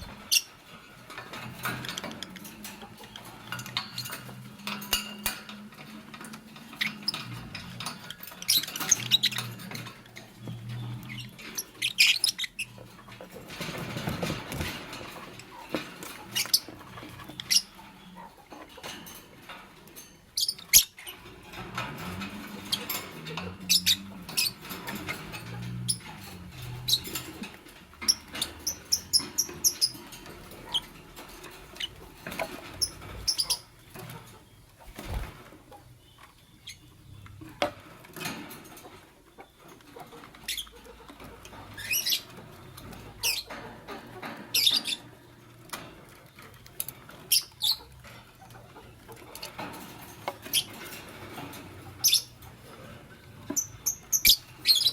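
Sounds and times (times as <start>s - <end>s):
birds chirping and squeaking: 0.0s - 54.9s.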